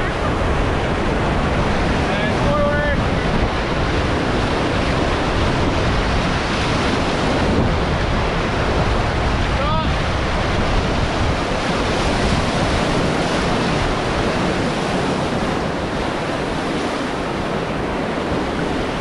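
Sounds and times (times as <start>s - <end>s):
whitewater rushing: 0.0s - 19.0s
wind buffeting microphone: 0.0s - 19.0s.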